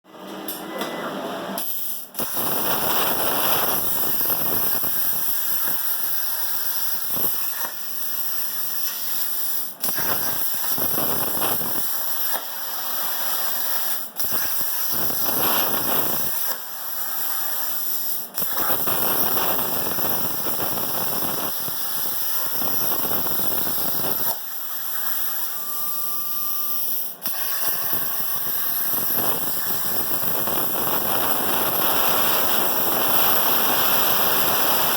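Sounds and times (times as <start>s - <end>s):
plasma torch hissing: 1.6s - 25.5s, 27.2s - 34.9s.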